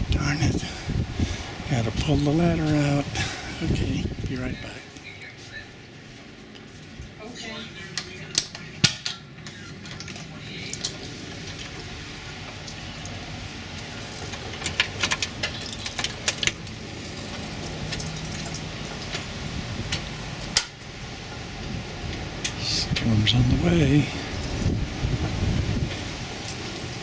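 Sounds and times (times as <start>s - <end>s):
wind: 0.0s - 27.0s.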